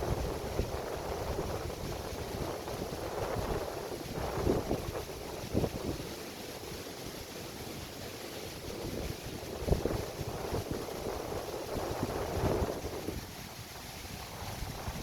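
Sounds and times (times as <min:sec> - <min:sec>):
wind gusting on microphone: 0:00.0 - 0:06.7, 0:07.7 - 0:15.0
sea waves washing onto beach: 0:00.0 - 0:15.0.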